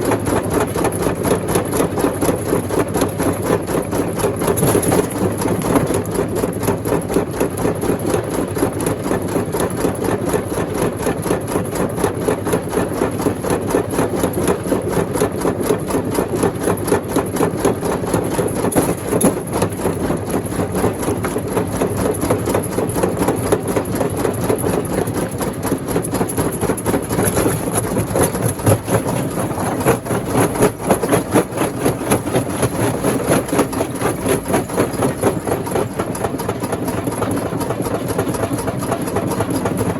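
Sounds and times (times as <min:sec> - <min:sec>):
rock crusher machine clattering: 0:00.2 - 0:10.1, 0:11.5 - 0:39.9.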